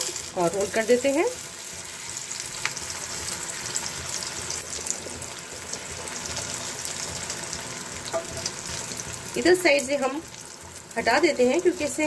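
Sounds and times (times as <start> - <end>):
egg sizzling in hot oil: 0.0 - 12.0.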